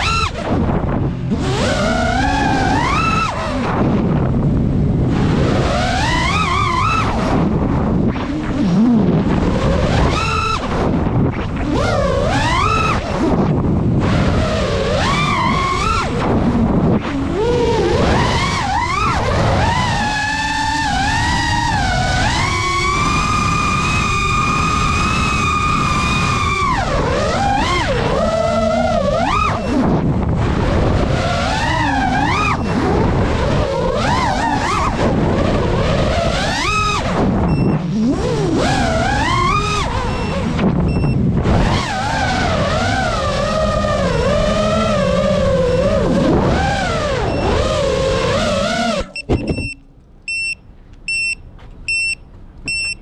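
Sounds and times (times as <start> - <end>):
wind rush on microphone: 0.0 - 49.8
drone motors whining: 0.0 - 53.0.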